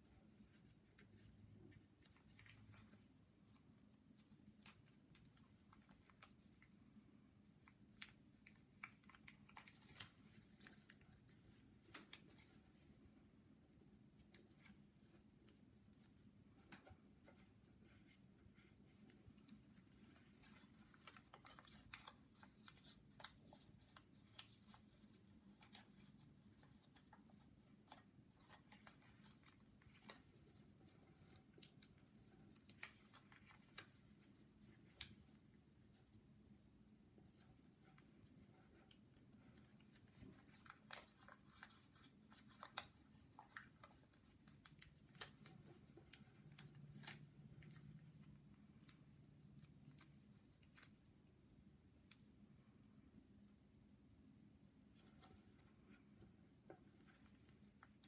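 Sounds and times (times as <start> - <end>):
paper crinkling while folded: 0.0 - 36.2, 37.2 - 51.3, 54.9 - 58.0
low room hum: 0.0 - 58.0.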